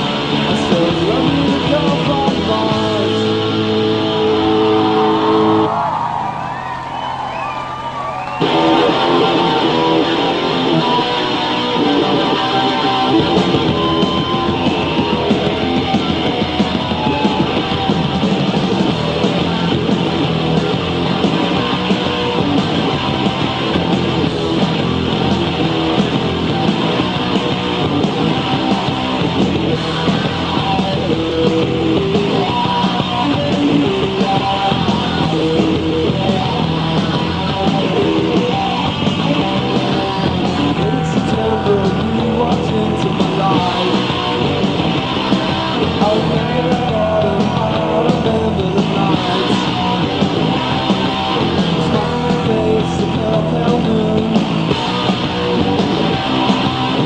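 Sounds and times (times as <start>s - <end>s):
distorted electric guitar: 0.0s - 57.0s
punk rock band playing live: 0.0s - 57.0s.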